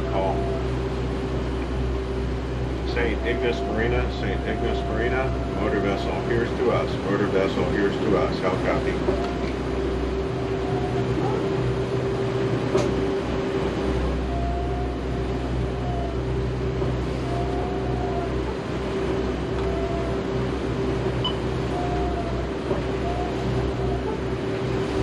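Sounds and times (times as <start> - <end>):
boat engines droning: 0.0 - 25.0.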